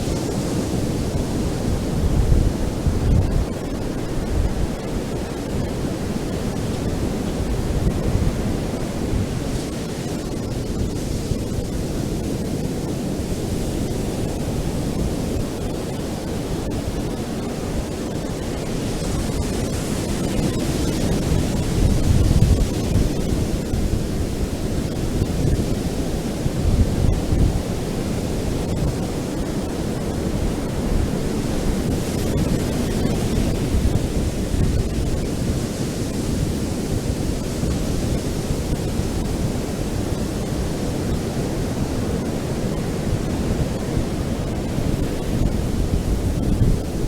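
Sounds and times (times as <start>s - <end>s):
ocean waves breaking on beach: 0.0s - 47.0s.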